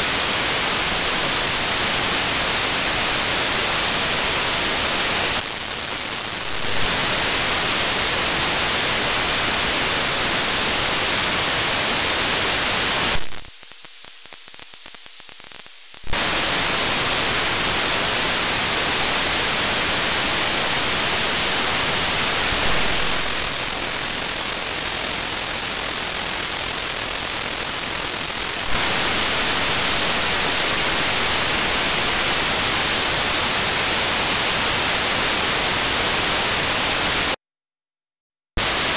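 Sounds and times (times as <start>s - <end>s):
radio static hiss: 0.0s - 37.4s, 38.6s - 38.9s.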